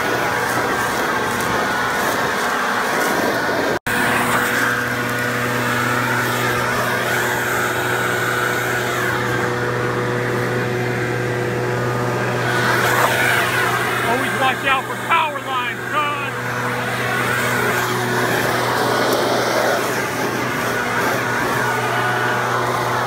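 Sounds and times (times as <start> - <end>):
leaf blower running: 0.0 - 23.0.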